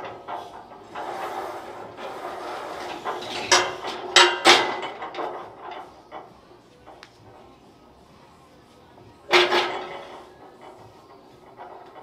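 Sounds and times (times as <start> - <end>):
barbell and weight plates clanking: 0.0 - 7.0, 9.2 - 12.0.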